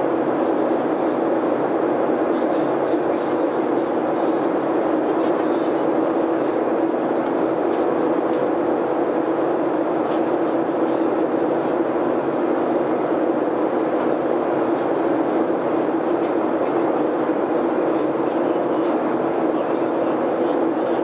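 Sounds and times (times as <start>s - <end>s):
jet engine drone in cabin: 0.0s - 21.0s.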